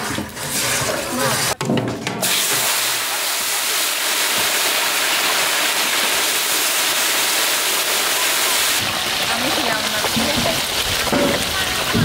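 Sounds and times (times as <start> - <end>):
hot oil sizzling in frying pan: 2.2 - 12.0.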